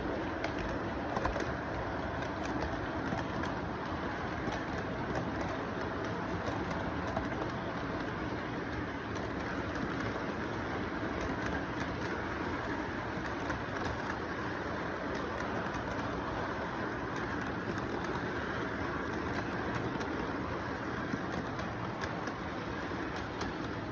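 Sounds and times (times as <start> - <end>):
model train rolling on track: 0.0 - 23.9.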